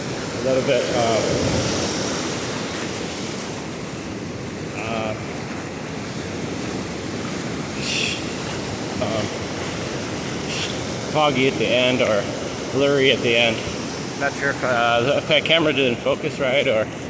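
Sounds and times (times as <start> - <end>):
wind buffeting microphone: 0.0 - 14.9
surf washing up beach: 0.0 - 17.0.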